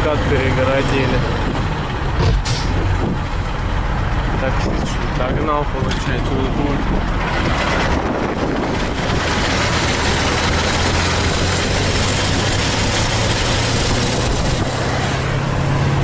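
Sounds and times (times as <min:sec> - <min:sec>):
road and wind noise: 0:00.0 - 0:16.0
truck diesel engine running: 0:00.0 - 0:16.0.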